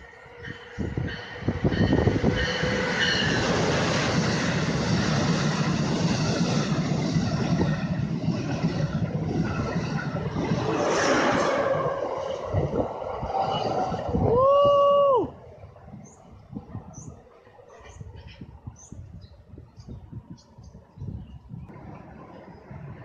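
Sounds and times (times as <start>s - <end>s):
train rumble and rushing air: 0.0s - 23.0s.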